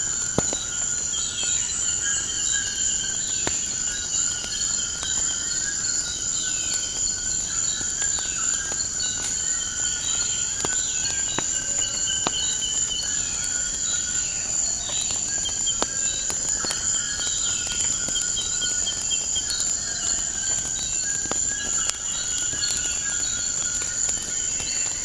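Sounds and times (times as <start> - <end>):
burning logs crackling: 0.0 - 25.0
insects chirring: 0.0 - 25.0.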